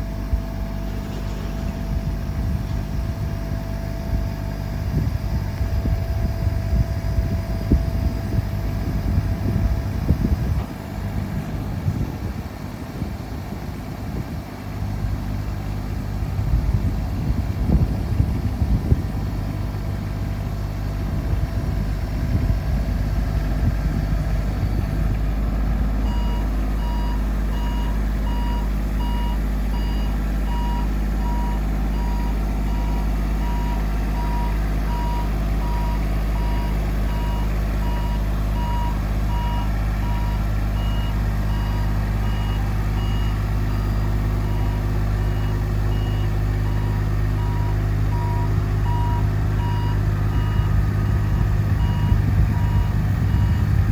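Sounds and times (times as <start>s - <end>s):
truck engine and hydraulic hum: 0.0s - 53.9s.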